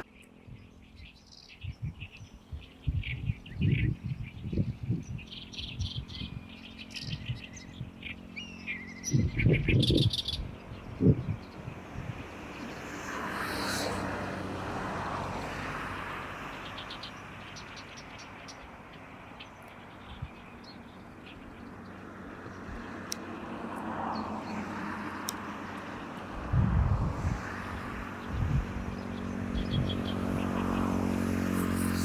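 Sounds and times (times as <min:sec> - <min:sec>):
motor vehicle passing: 0:02.9 - 0:32.0.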